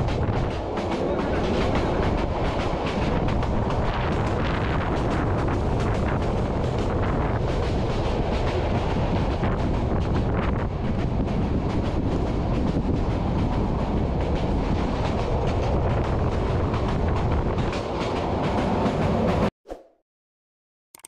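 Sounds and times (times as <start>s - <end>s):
train wheels rumbling on rails: 0.0s - 19.5s.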